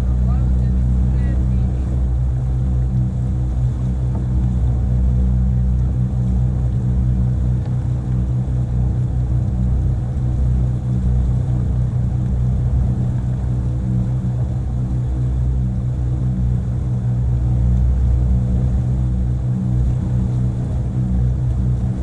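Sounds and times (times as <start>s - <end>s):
motorboat engine rumbling: 0.0s - 22.0s.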